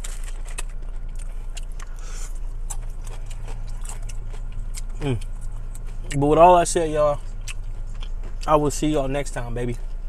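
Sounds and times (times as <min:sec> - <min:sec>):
person chewing food: 0:00.0 - 0:09.1
steady low hum: 0:00.0 - 0:10.0.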